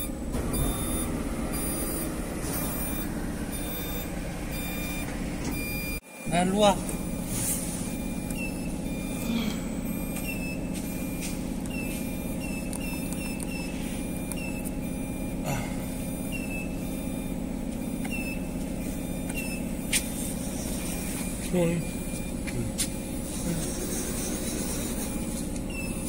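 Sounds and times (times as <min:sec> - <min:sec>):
lathe humming: 0:00.0 - 0:26.0
short high electronic beeps: 0:00.0 - 0:26.0.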